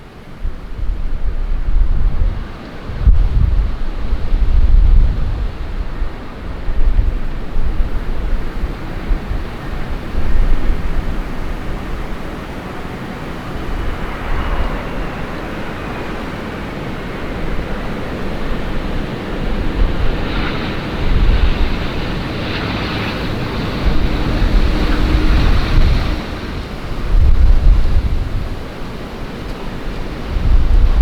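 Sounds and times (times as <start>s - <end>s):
gusty wind on microphone: 0.0s - 31.0s.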